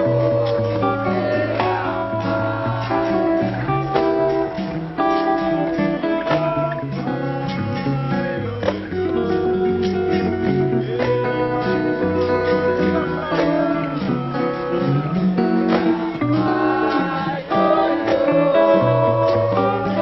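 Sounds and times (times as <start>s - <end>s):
blues acoustic guitar: 0.0s - 20.0s.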